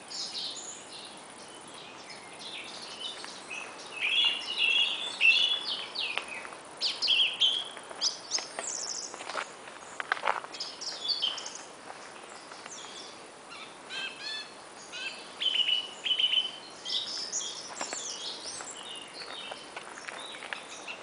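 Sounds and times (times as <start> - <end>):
faint steady hiss: 0.0 - 21.0
songbirds chirping and trilling: 0.0 - 21.0.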